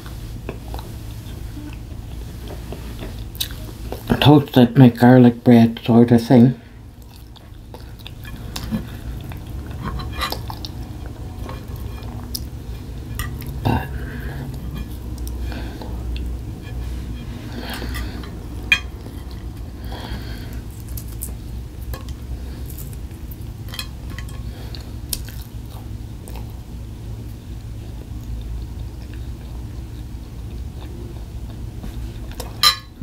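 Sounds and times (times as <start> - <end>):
person chewing food: 0.0 - 4.2, 6.8 - 32.7
steady low hum: 0.0 - 33.0.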